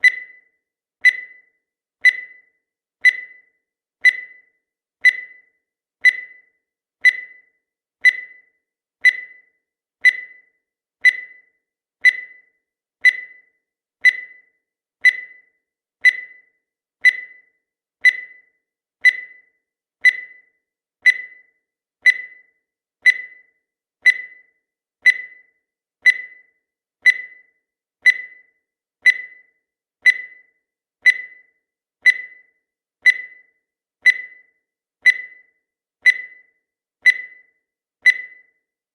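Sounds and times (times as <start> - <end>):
high-pitched timer ticks: 0.0 - 38.8.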